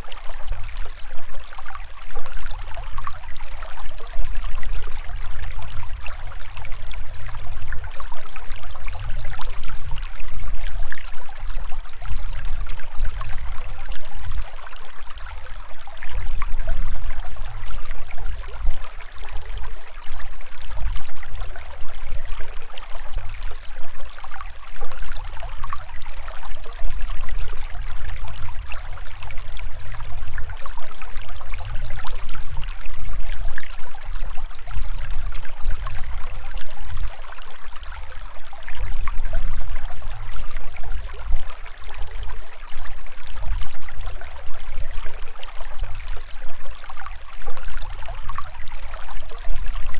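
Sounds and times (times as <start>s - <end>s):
stream splashing over rocks: 0.0s - 49.9s.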